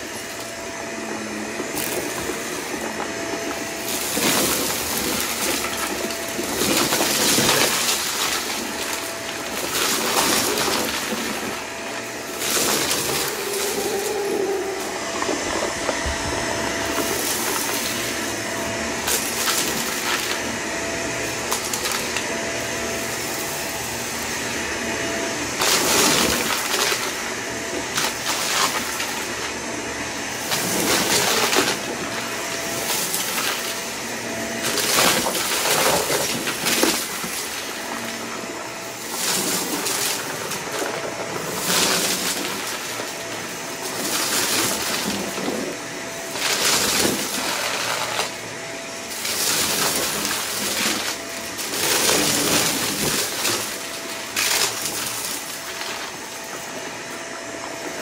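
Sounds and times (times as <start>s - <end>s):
debris rattling in vacuum: 0.0s - 58.0s
vacuum cleaner whine: 0.0s - 58.0s.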